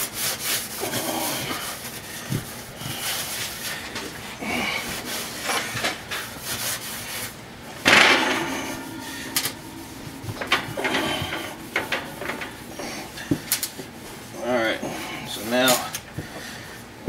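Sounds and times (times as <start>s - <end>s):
sponge scrubbing oven floor: 0.0s - 17.0s.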